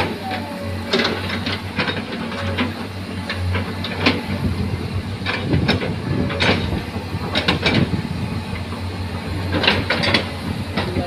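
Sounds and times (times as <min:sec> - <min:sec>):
clanks and rattles: 0:00.0 - 0:11.0
heavy truck engine humming: 0:00.0 - 0:11.0.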